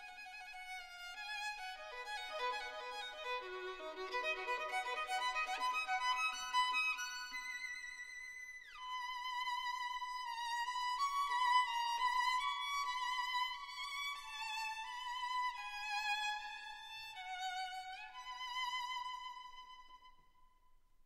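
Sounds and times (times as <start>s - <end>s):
slow solo violin melody: 0.0s - 20.2s.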